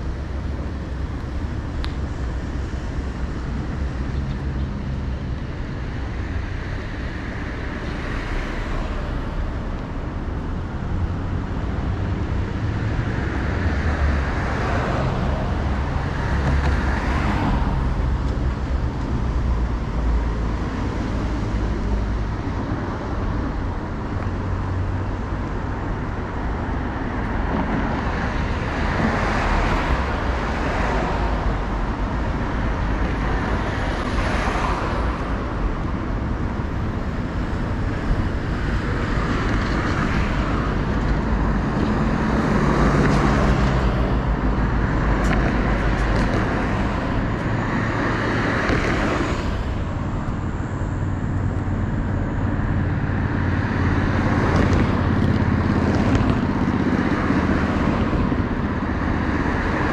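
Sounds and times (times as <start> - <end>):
cars passing: 0.0 - 59.9
low traffic rumble: 0.0 - 59.9.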